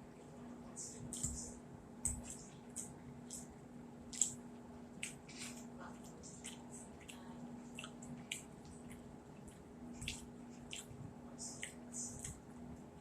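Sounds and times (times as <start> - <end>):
faint steady hum: 0.0 - 13.0
person chewing: 2.0 - 12.5.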